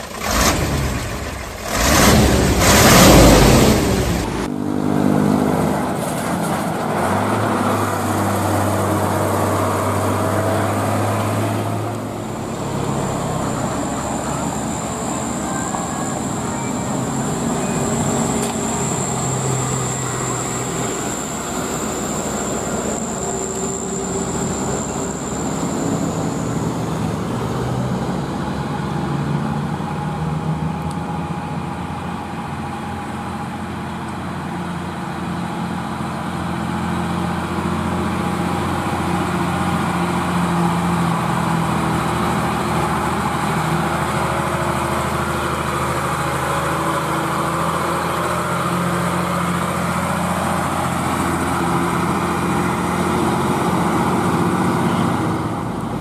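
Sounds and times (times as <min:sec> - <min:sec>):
diesel truck engine labouring: 0:00.0 - 0:56.0.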